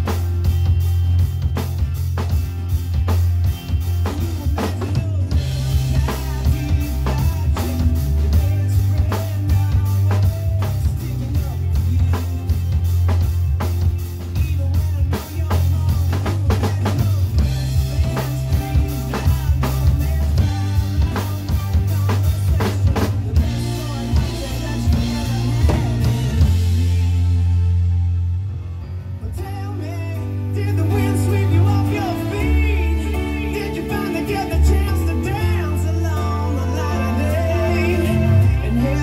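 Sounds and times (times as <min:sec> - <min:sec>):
drum kit playing a beat: 0:00.0 - 0:39.0
recorded rock song: 0:00.0 - 0:39.0.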